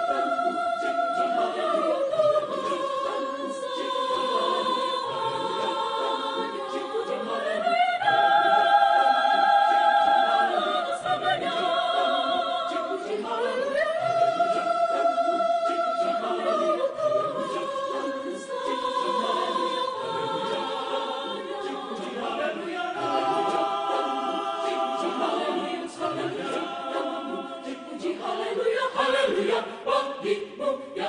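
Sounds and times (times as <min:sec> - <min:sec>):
choir singing a hymn: 0:00.0 - 0:31.0.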